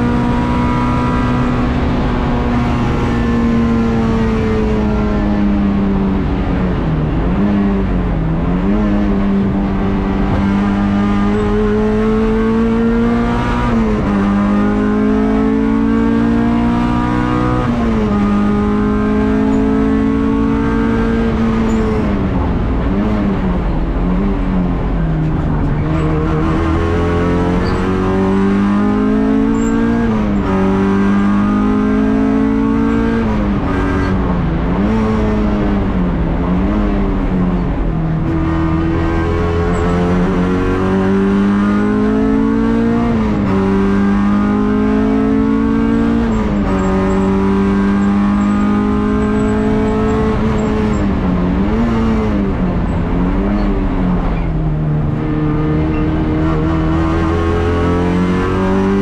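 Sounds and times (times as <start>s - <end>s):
race car engine revving with gear changes: 0.0s - 59.0s.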